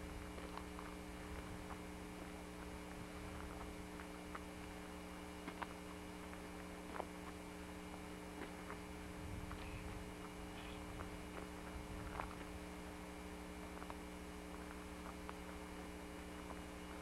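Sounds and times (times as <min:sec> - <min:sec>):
electrical hum: 0:00.0 - 0:17.0
faint crackles and clicks: 0:00.0 - 0:17.0.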